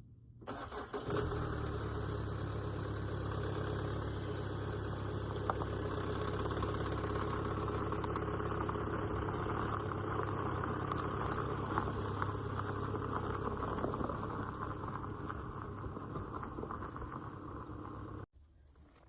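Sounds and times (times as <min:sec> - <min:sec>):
engine idling: 0:00.4 - 0:18.3.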